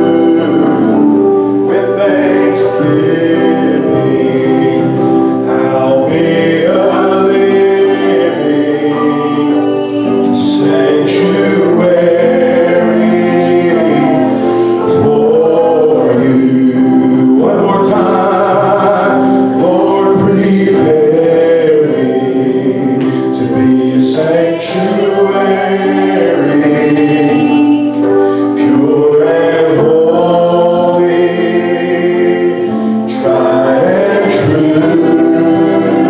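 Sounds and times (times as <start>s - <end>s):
voices singing gospel: 0.0s - 36.0s.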